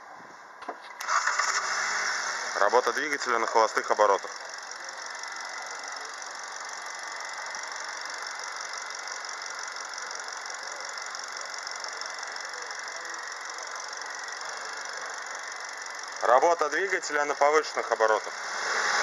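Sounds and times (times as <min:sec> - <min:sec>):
fast mechanical ticking: 0:01.0 - 0:18.6
car engine idling: 0:01.0 - 0:18.7.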